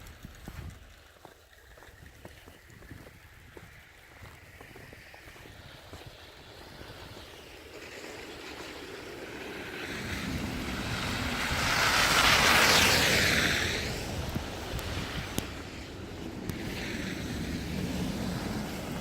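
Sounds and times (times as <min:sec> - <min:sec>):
vehicle tyres hissing through slush: 0:00.0 - 0:19.0.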